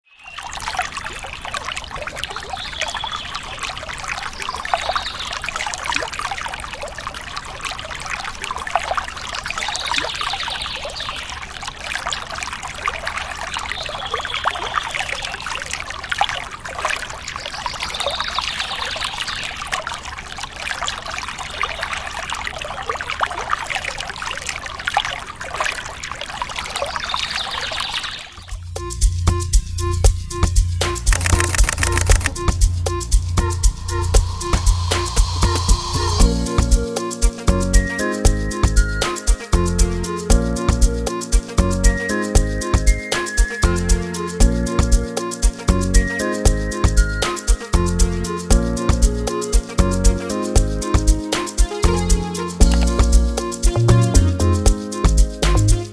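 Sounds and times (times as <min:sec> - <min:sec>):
water trickling and splashing: 0:00.2 - 0:55.9.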